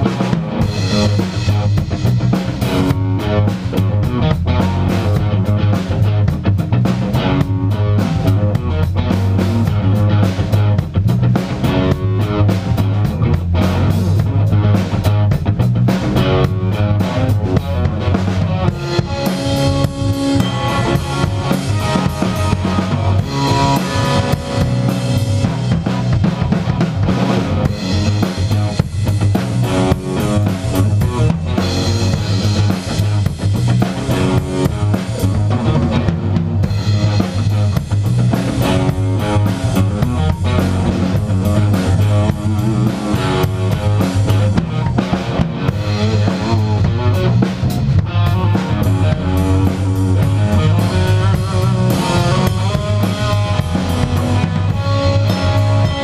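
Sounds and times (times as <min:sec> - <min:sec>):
band playing: 0:00.0 - 0:56.0.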